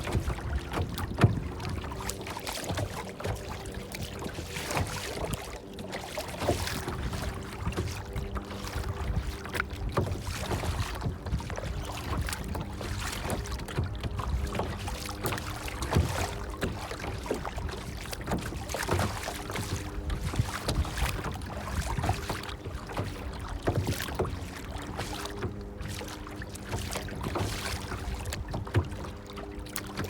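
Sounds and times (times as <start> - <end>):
water lapping and splashing: 0.0 - 30.0.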